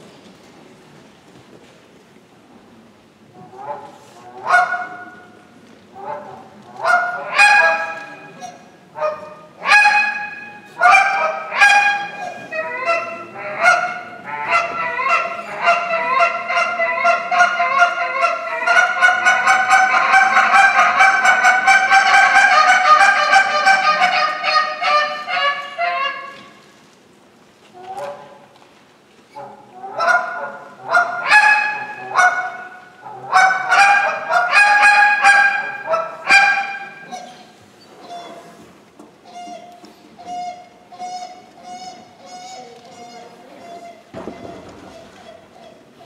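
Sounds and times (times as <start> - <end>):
goose call honks and clucks: 3.4 - 5.3, 6.0 - 26.6, 29.3 - 38.6, 39.2 - 46.0.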